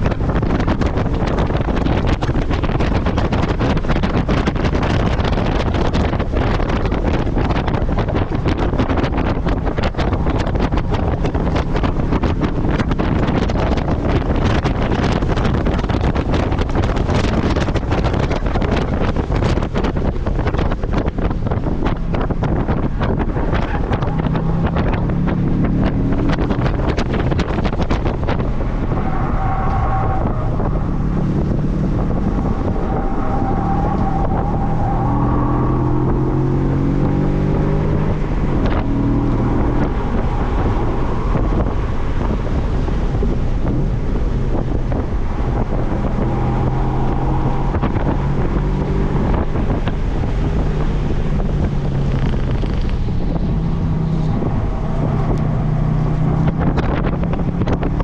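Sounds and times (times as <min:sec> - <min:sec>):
car engine at speed: 0:00.0 - 0:58.0
wind buffeting on microphone: 0:00.0 - 0:58.0.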